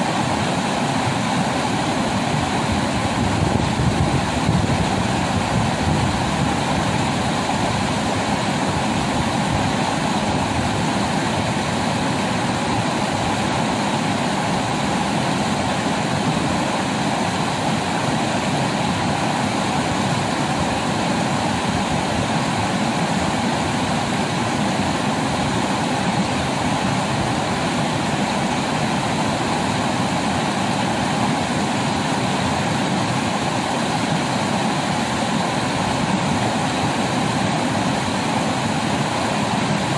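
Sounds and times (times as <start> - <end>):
whitewater rushing over rocks: 0.0 - 39.9.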